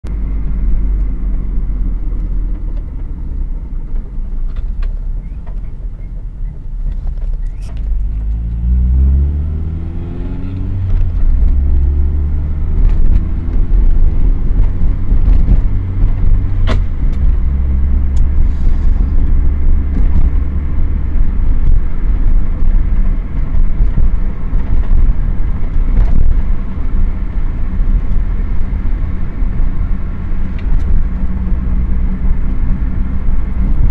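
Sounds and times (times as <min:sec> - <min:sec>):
car low rumble: 0:00.0 - 0:33.9.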